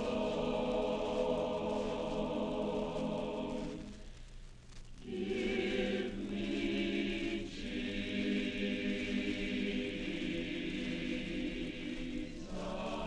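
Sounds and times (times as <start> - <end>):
choir singing chords: 0.0 - 4.1, 5.0 - 13.0.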